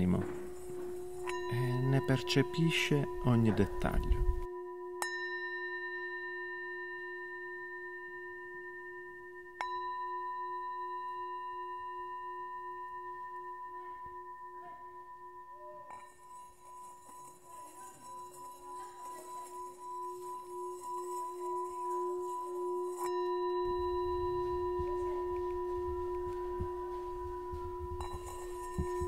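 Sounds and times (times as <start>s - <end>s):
bell-like instrument ringing: 0.0s - 29.0s.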